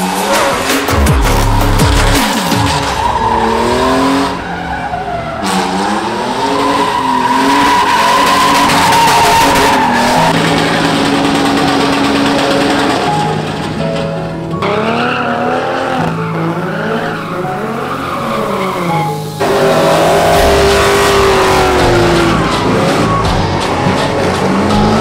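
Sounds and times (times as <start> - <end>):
tires squealing: 0.0 - 25.0
truck engine revving: 0.0 - 25.0.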